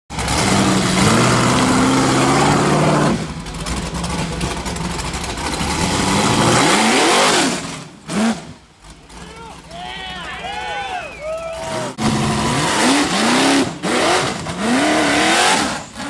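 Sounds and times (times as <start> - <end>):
buggy engine revving hard: 0.1 - 9.8, 11.5 - 16.0.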